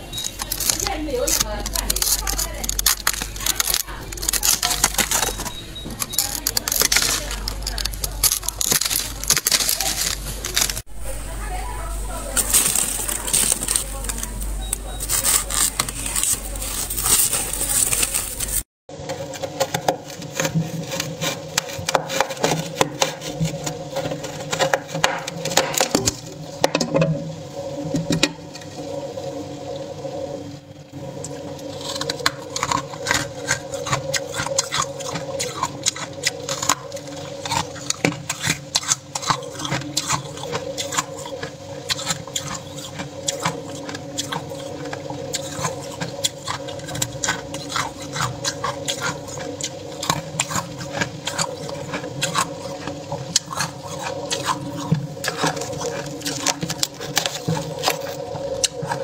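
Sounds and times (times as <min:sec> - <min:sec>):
frost crunching and crackling: 0:00.0 - 0:59.0
steady low hum: 0:00.0 - 0:59.0.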